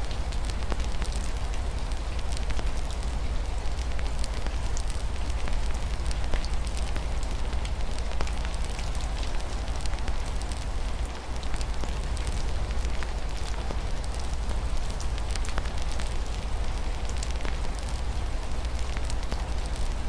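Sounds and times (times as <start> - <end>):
rain hissing on a window: 0.0 - 20.0
wood fire crackling and popping: 0.1 - 20.0.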